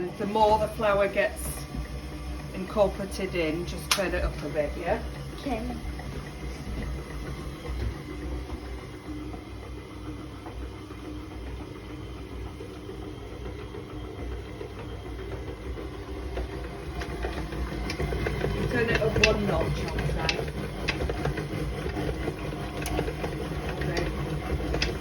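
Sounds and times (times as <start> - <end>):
stand mixer motor humming: 0.0 - 25.0.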